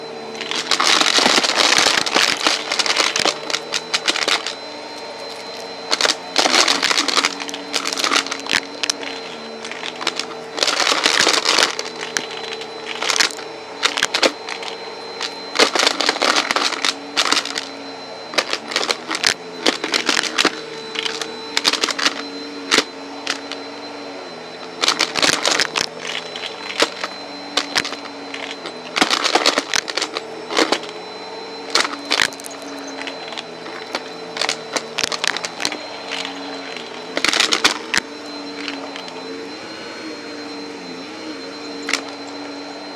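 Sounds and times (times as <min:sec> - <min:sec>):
vacuum cleaner motor whine: 0:00.0 - 0:42.9
coins rattling through hose: 0:00.4 - 0:17.7, 0:18.3 - 0:23.6, 0:24.8 - 0:31.0, 0:31.6 - 0:39.4, 0:41.6 - 0:42.6.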